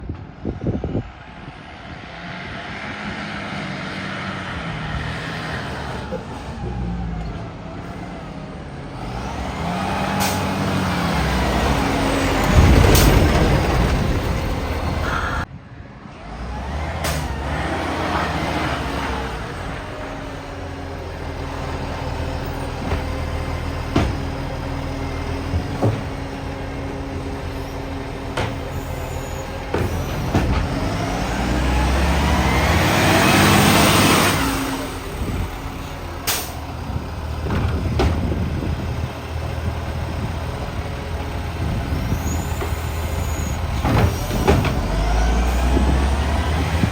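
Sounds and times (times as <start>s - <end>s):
diesel engine revving: 1.4s - 15.5s, 16.2s - 46.9s.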